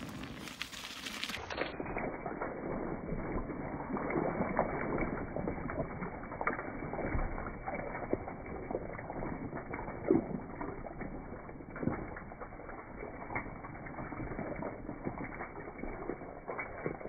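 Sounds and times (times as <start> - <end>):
bike tyres rolling through mud: 0.0 - 17.0.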